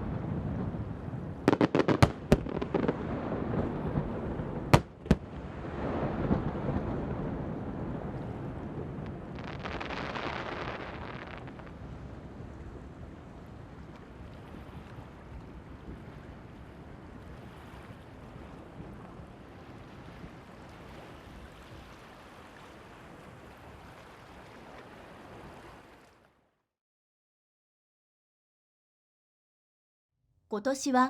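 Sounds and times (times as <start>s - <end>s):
wind noise on microphone: 0.0s - 26.1s.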